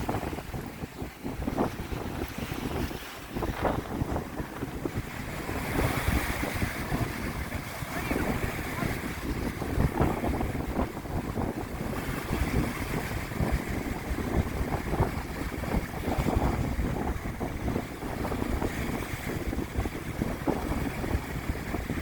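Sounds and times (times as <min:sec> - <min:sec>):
gusting wind on microphone: 0:00.0 - 0:22.0
waves washing on shore: 0:00.0 - 0:22.0.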